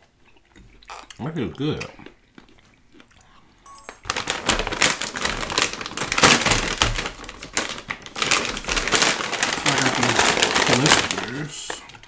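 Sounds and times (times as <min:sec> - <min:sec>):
crunchy granola being chewed: 0:00.0 - 0:12.0.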